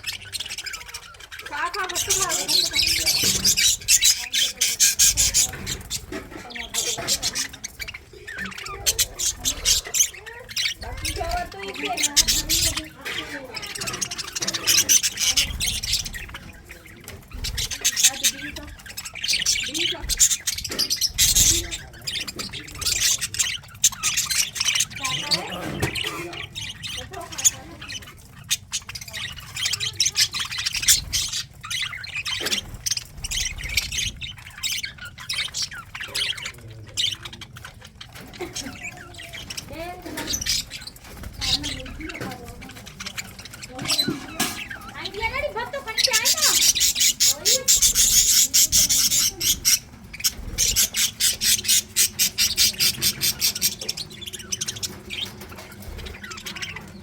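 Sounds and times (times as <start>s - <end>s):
budgerigars chattering and squawking: 0.0s - 57.0s.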